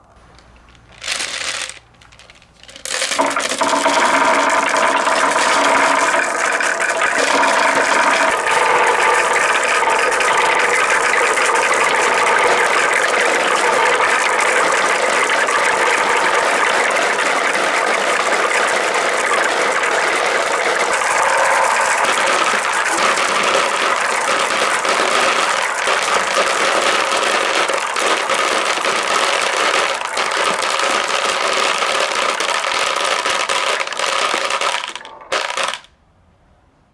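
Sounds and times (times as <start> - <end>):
marbles rolling down wooden slopes: 0.3 - 35.9.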